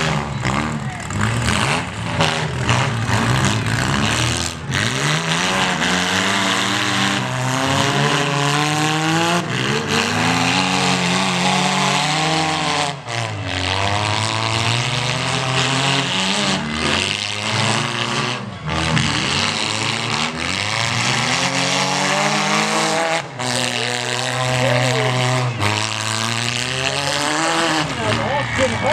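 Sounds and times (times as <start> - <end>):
car engines revving: 0.0 - 28.9.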